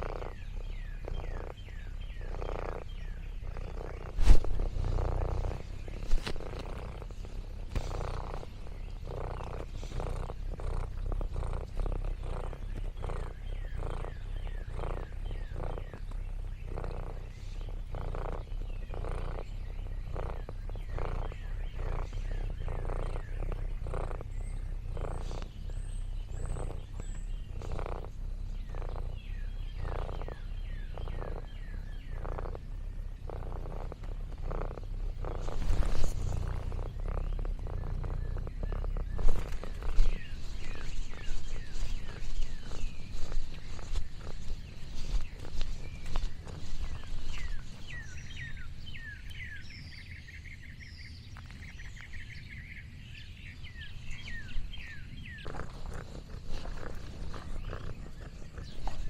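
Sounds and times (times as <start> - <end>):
cat purring: 0.0 - 50.2, 53.6 - 59.0.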